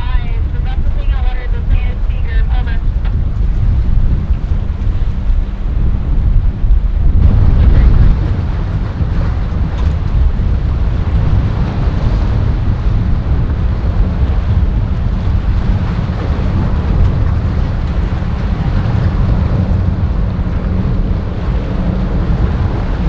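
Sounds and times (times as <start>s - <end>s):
boat engine: 0.0s - 23.0s
waves rushing: 0.0s - 23.0s
wind buffeting microphone: 0.0s - 23.0s.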